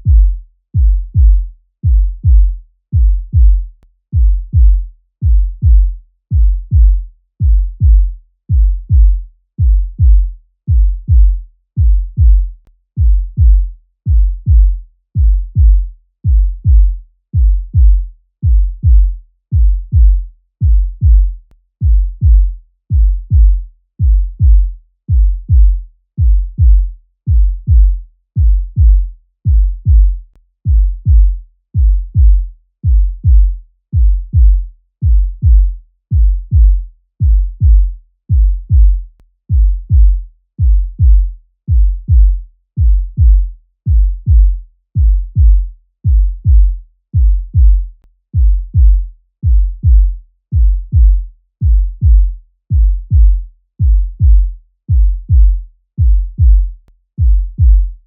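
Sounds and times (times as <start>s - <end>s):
heartbeat double thump: 0.0s - 57.9s.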